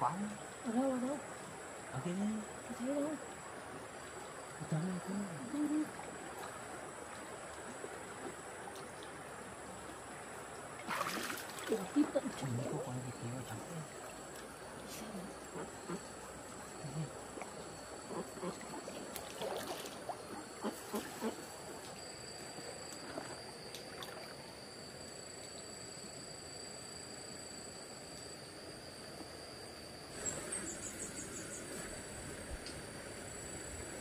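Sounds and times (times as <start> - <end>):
high-pitched insect drone: 0.0 - 6.2, 10.1 - 34.0.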